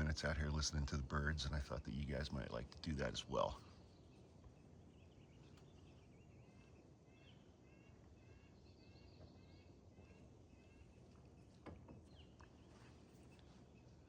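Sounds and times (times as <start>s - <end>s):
bird chirping: 0.0s - 14.0s
low background noise: 0.0s - 14.0s.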